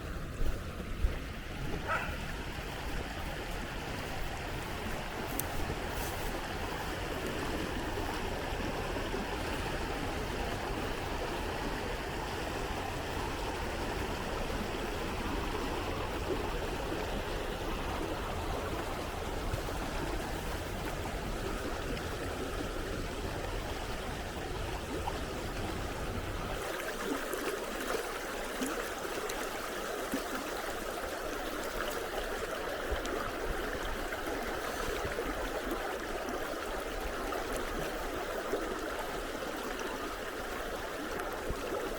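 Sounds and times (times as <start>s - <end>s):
stream water running: 0.0s - 41.9s.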